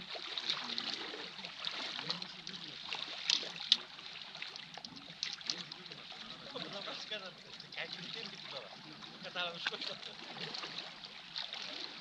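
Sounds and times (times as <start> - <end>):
small waves lapping on rocks: 0.0 - 12.0.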